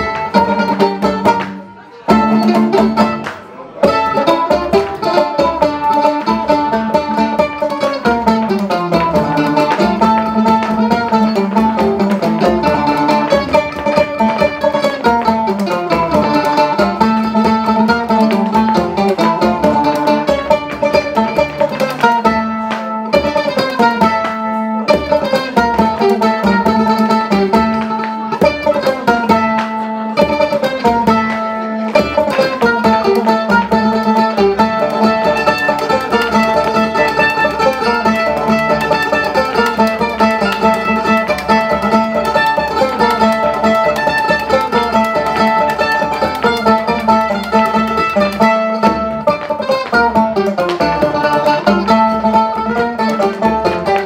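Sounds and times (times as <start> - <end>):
folk band playing plucked strings: 0.0 - 54.0.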